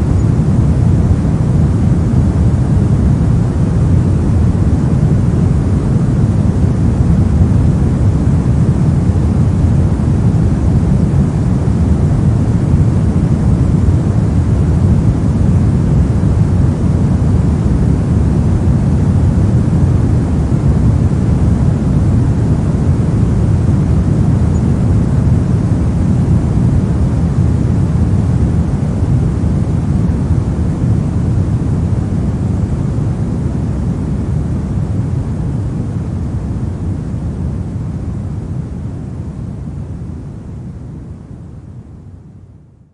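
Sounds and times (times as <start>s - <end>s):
pink noise rushing hiss: 0.0s - 42.1s.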